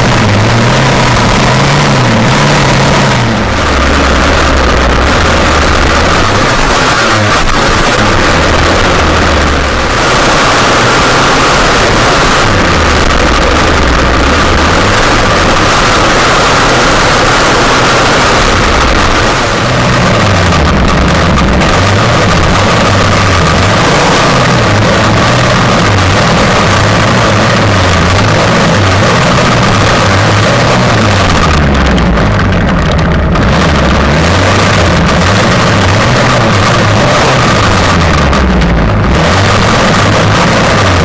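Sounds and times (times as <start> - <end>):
small petrol engine revving: 0.0 - 41.0.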